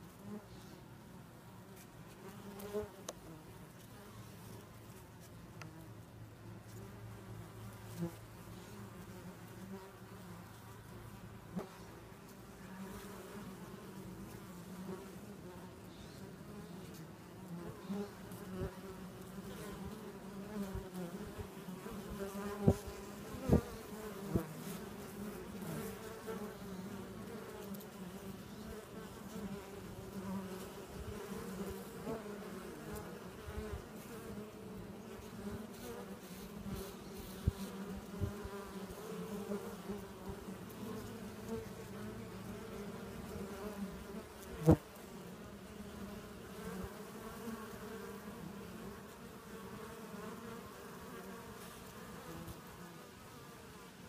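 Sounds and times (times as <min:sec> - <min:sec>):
honeybee colony humming: 0:00.0 - 0:54.0.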